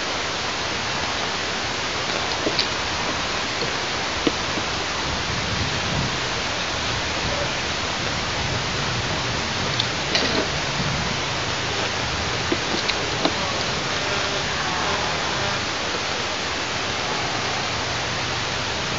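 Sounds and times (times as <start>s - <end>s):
wind hiss on microphone: 0.0s - 18.9s.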